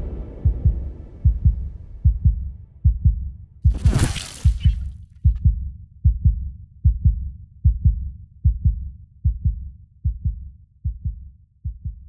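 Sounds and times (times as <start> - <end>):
heartbeat thumps: 0.0 - 12.0.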